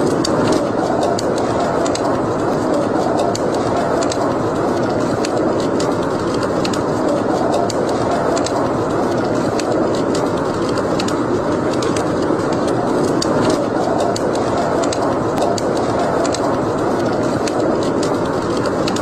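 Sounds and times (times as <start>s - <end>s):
fire crackling and popping: 0.0s - 19.0s
flames rushing: 0.0s - 19.0s.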